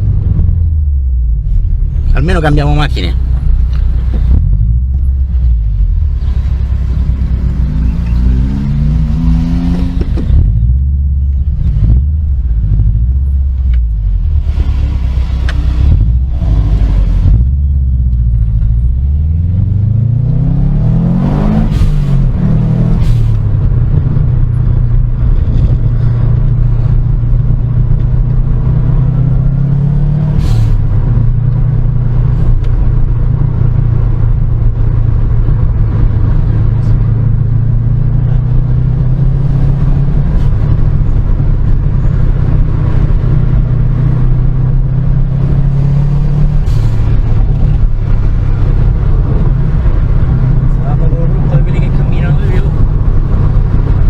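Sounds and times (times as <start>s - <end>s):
car engine accelerating and shifting: 0.0s - 54.0s.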